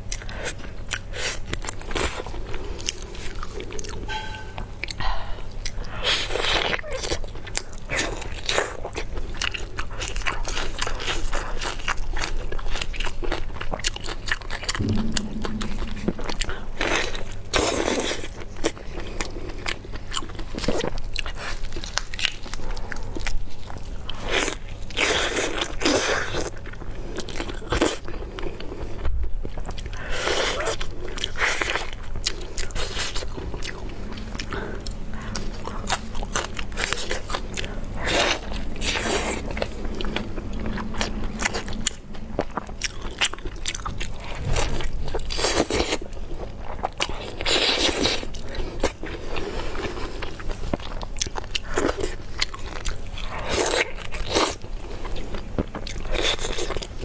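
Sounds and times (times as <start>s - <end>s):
crunching and chewing: 5.6s - 15.0s, 17.9s - 57.0s.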